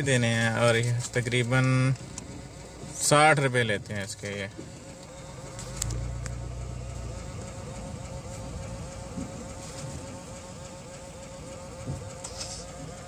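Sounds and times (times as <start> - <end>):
engine and road rumble: 0.0 - 13.0
steady buzzing hum: 0.0 - 13.0.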